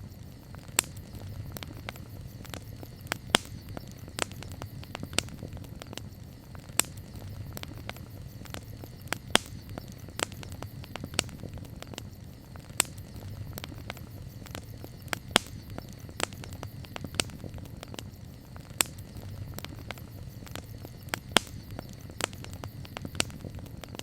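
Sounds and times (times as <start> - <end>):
campfire crackling and popping: 0.0 - 24.0
low rumble of burning fire: 0.0 - 24.0.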